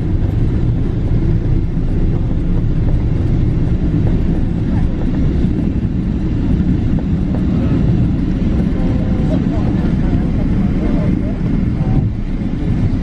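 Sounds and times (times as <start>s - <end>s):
deep rumble of aircraft wheels and engines: 0.0s - 13.0s.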